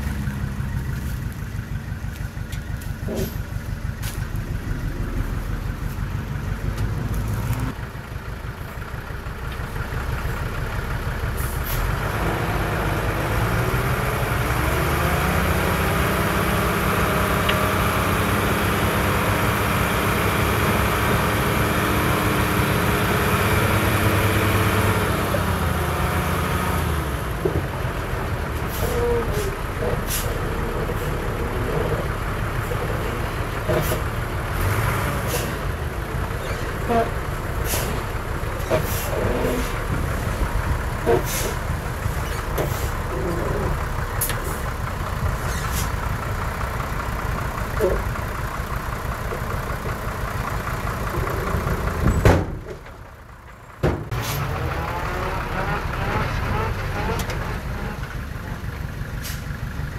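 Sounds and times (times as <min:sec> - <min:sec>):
heavy diesel engine revving: 0:02.8 - 0:59.9.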